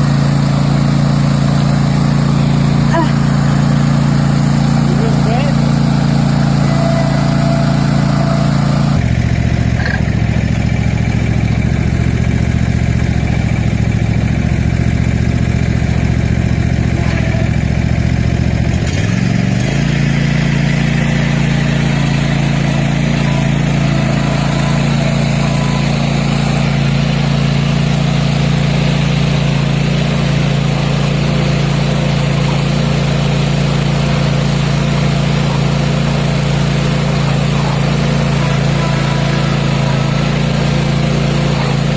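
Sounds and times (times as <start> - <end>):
mower engine running: 0.0 - 41.9.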